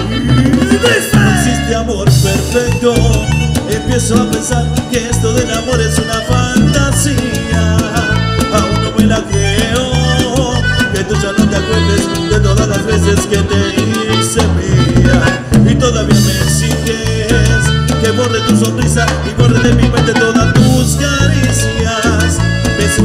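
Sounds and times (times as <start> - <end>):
cumbia band playing: 0.0 - 23.0.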